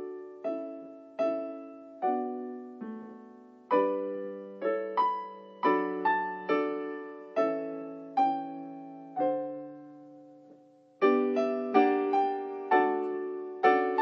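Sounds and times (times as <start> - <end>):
slow solo piano chords: 0.0 - 14.0.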